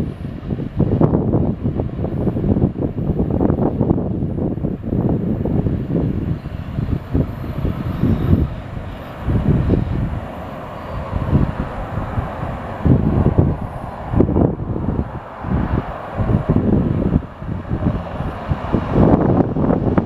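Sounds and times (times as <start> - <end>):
freight cars rumbling past: 0.0 - 20.0
wind buffeting microphone: 0.0 - 20.0.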